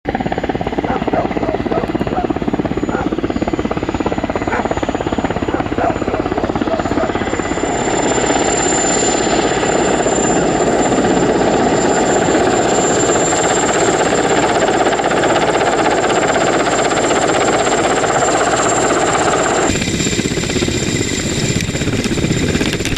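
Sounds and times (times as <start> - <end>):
helicopter rotor chop: 0.1 - 22.9
turbine whine: 0.1 - 22.9.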